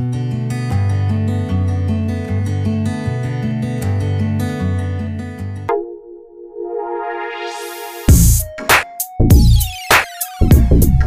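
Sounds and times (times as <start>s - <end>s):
guitar instrumental music: 0.0s - 11.0s.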